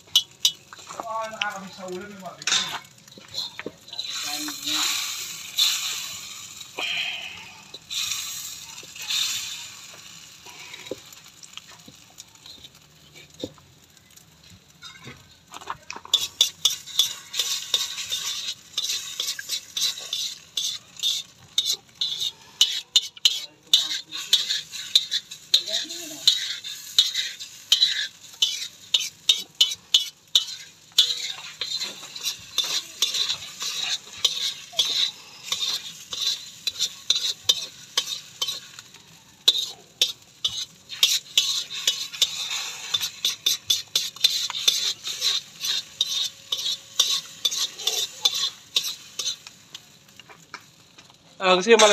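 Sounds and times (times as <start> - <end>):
metal ladle scraping a pan: 0.0 - 11.7, 14.7 - 15.2, 15.9 - 50.4
eggs sizzling in a wok: 0.0 - 51.9.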